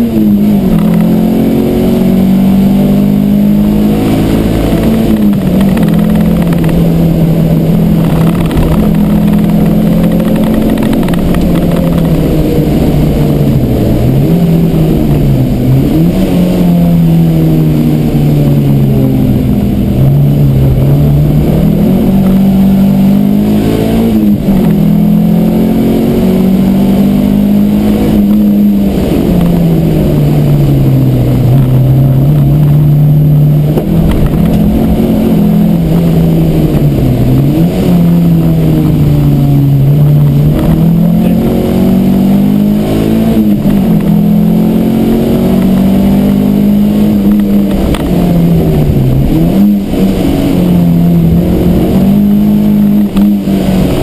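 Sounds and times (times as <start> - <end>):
car engine accelerating from inside: 0.0 - 54.0.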